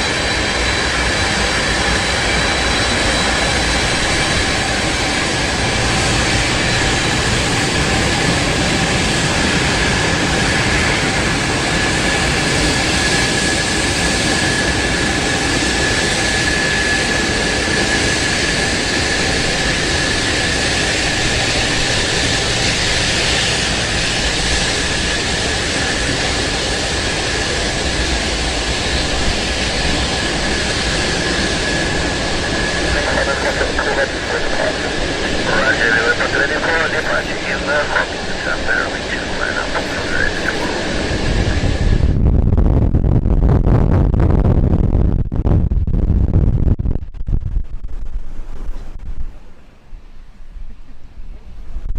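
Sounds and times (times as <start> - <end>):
jet engines roaring: 0.0 - 45.8
high engine whine: 0.0 - 50.0.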